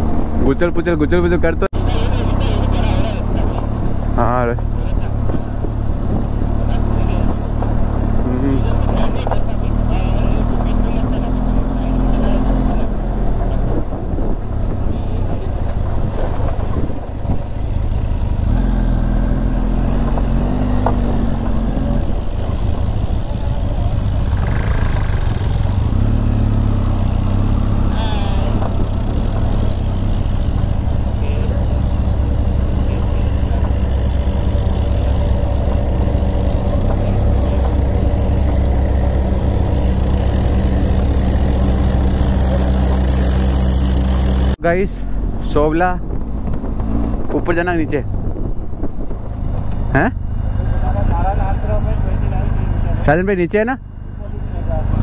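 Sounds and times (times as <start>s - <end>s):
vehicle engine while driving: 0.0s - 55.0s.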